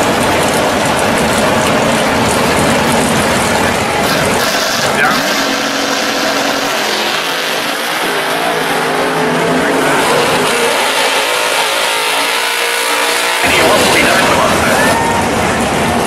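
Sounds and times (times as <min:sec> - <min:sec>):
drag car engines idling: 0:00.0 - 0:16.0.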